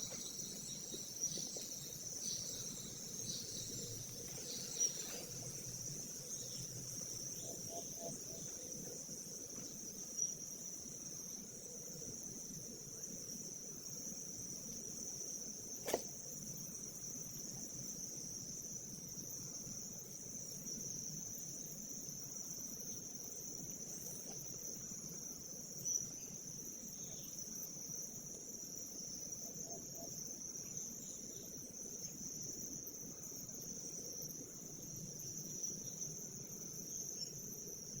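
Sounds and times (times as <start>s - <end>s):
insect chorus buzzing: 0.0s - 38.0s.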